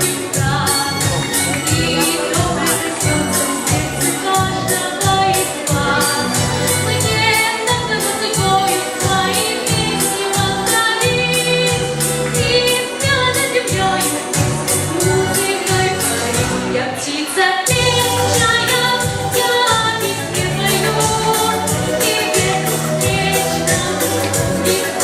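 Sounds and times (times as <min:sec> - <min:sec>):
music with steady beat: 0:00.0 - 0:17.0, 0:17.6 - 0:25.0
girl singing a pop song: 0:00.0 - 0:25.0.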